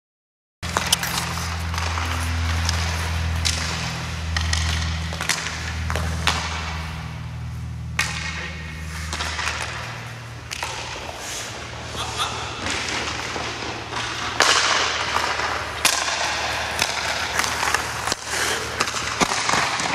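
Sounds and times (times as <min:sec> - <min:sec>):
skate blades scraping on ice: 0:00.6 - 0:19.9
steady low hum: 0:00.6 - 0:19.9.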